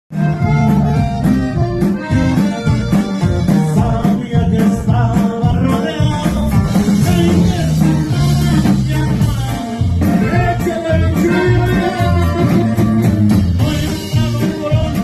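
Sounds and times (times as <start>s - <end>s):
live band with accordion: 0.1s - 15.0s.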